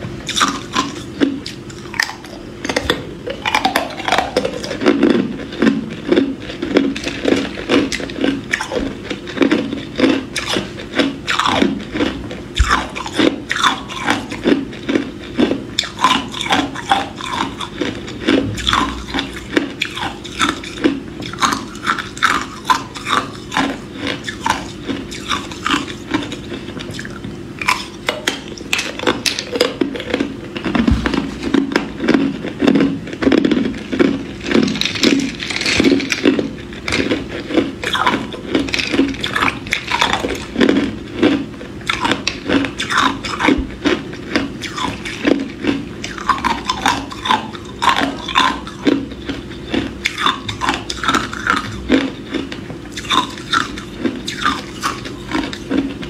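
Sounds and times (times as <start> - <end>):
ice cubes crunching in mouth: 0.3 - 56.0.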